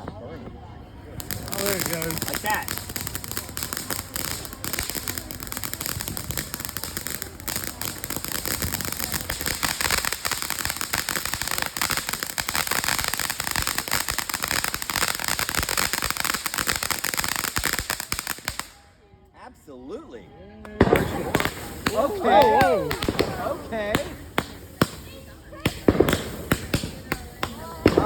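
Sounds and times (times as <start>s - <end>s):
firework crackling: 1.0s - 18.9s, 20.8s - 28.0s.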